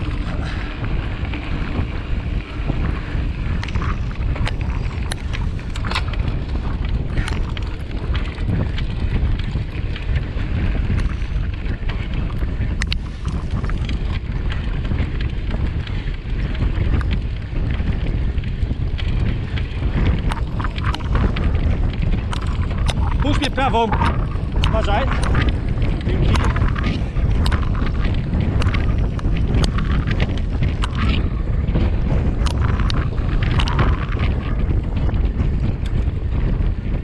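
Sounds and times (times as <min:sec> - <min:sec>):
bike clicks and rattles: 0:00.0 - 0:37.0
wind buffeting microphone: 0:00.0 - 0:37.0.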